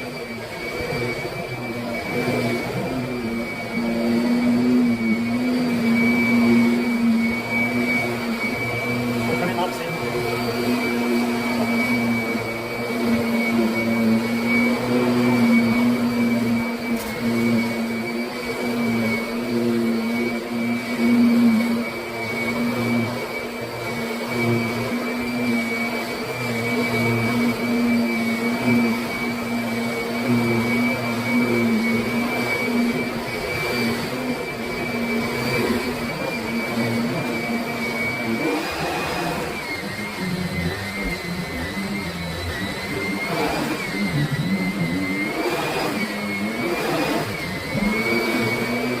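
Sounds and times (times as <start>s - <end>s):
vacuum cleaner motor whine: 0.0s - 49.0s.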